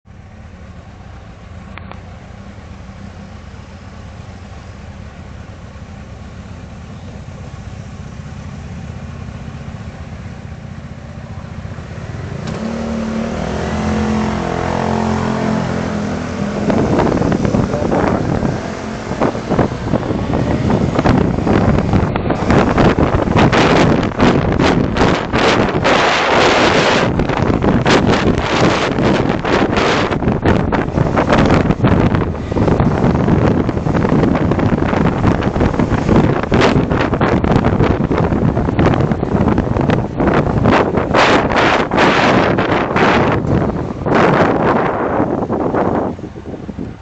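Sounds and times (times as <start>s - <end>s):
motorcycle engine: 0.0s - 46.9s
wind buffeting microphone: 0.8s - 47.0s.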